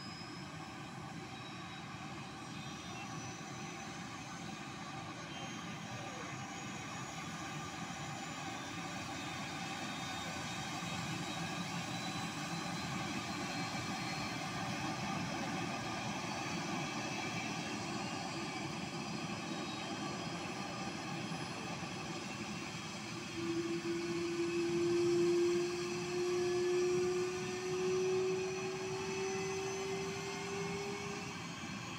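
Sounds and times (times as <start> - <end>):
helicopter turbine idling whine: 0.0 - 31.9.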